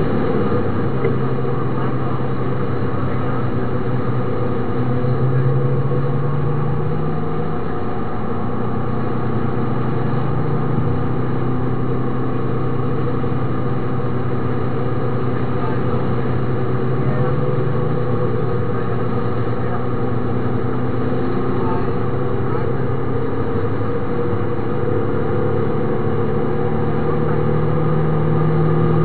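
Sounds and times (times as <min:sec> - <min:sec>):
car engine drone: 0:00.0 - 0:29.0.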